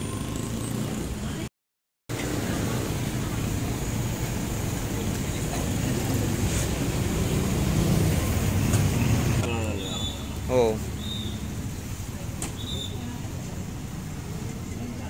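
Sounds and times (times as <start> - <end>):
low rumble of road traffic: 0.0 - 1.5, 2.1 - 15.0.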